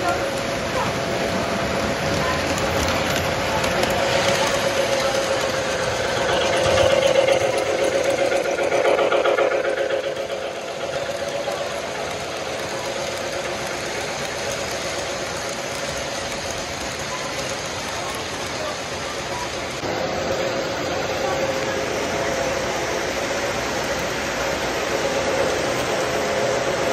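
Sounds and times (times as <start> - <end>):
model train running on track: 0.0 - 26.9.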